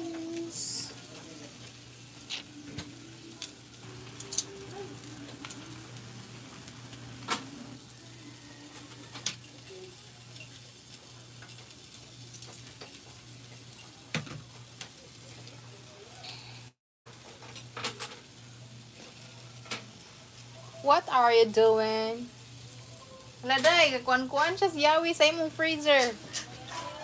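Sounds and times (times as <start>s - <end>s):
fish sizzling on a grill: 0.0s - 27.0s.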